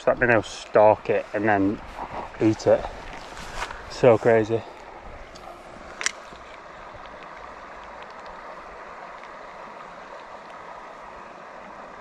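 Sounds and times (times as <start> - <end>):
flowing stream water: 0.0 - 12.0.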